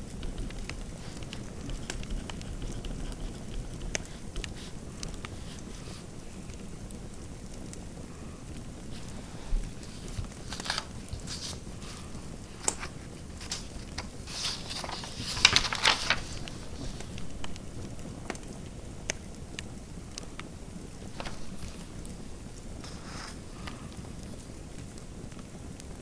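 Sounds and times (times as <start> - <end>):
fireplace crackling: 0.0 - 26.0.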